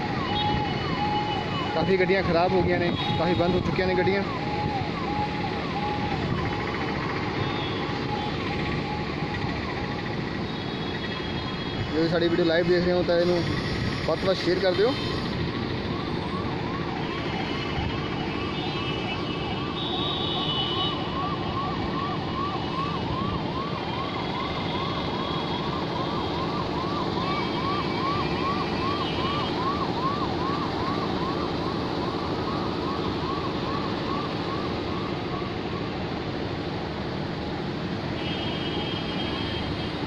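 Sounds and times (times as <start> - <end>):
ambulance siren yelping: 0.0 - 40.0
traffic drone: 0.0 - 40.0.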